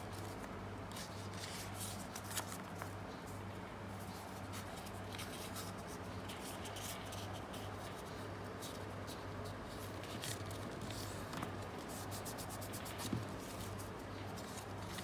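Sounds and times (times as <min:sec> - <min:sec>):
paper rustling and crinkling: 0:00.0 - 0:03.4, 0:04.0 - 0:15.0
steady low hum: 0:00.0 - 0:15.0.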